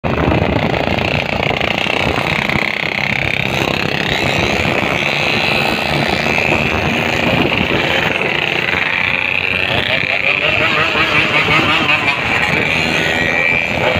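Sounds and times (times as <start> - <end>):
motorcycle engines rumbling: 0.0 - 13.9.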